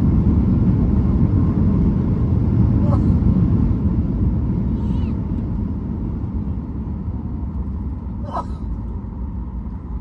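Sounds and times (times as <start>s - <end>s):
jet engines and wheels rumbling: 0.0s - 10.0s.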